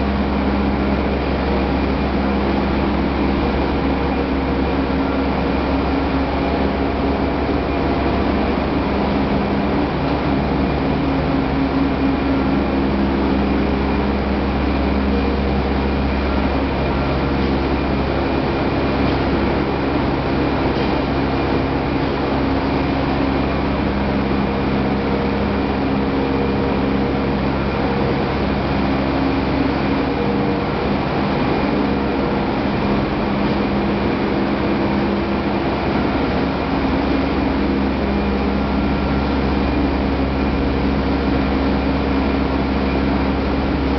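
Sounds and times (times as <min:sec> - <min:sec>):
milling machinery drone: 0:00.0 - 0:43.9
steady machine hums: 0:00.0 - 0:43.9.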